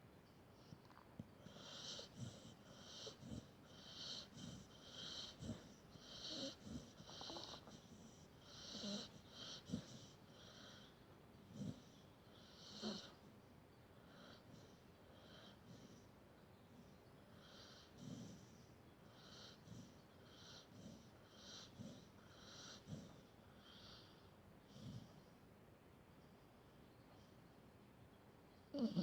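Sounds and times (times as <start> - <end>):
dog snoring faintly: 0.5 - 25.5, 28.7 - 29.0.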